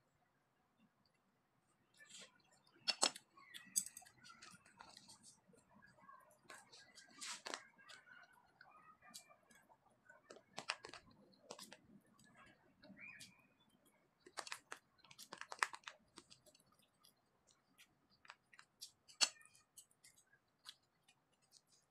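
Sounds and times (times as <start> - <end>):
soft chewing: 0.8 - 21.9.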